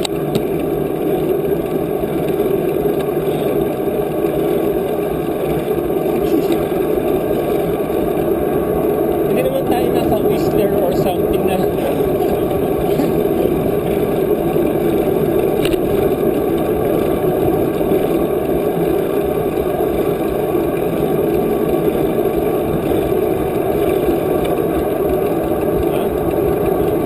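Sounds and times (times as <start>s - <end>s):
bicycle tyre road noise: 0.0s - 27.0s.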